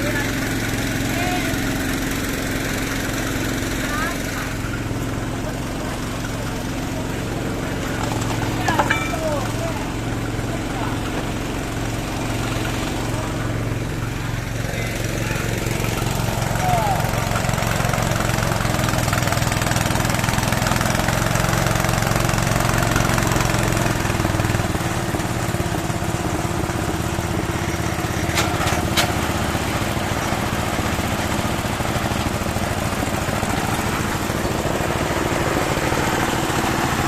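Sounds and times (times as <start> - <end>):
small pump engine running: 0.0 - 37.0.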